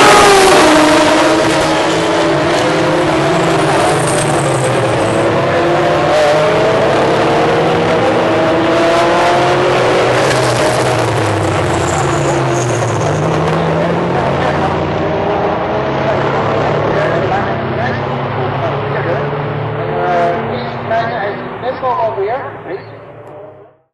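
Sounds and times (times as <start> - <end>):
race cars accelerating: 0.0 - 23.9.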